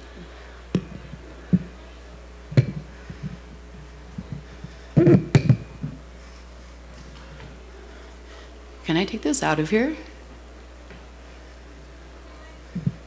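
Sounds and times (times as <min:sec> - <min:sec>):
sound system hum: 0:00.0 - 0:13.0.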